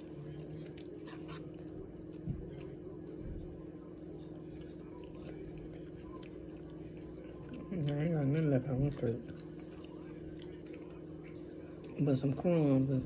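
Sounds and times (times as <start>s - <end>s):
food being chewed: 0.0s - 12.9s
steady low hum: 0.0s - 13.0s.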